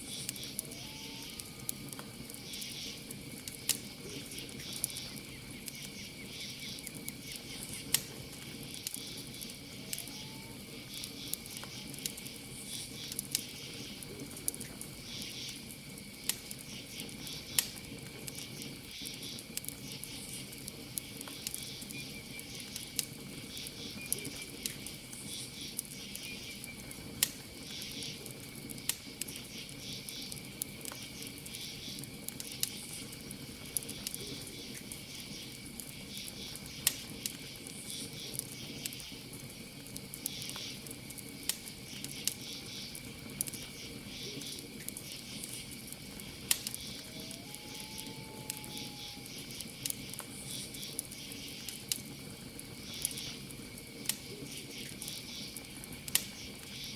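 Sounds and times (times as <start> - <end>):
campfire crackling and popping: 0.0 - 56.9
crickets chirping: 0.0 - 56.9.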